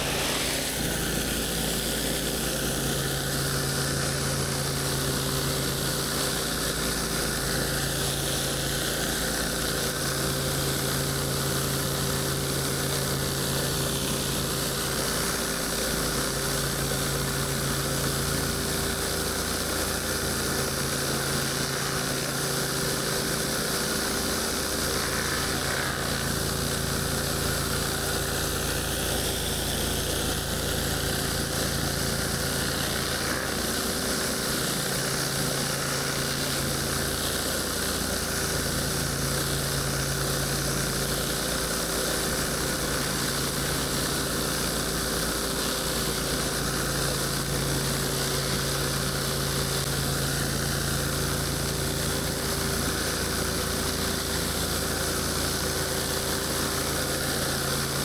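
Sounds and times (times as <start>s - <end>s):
pressure washer engine running: 0.0s - 58.0s
water spraying onto concrete: 0.0s - 58.0s.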